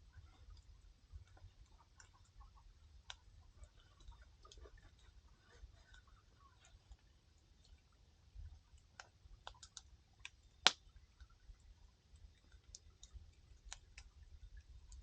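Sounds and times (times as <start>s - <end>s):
campfire crackling: 0.0s - 7.9s, 8.5s - 11.5s, 12.3s - 15.0s.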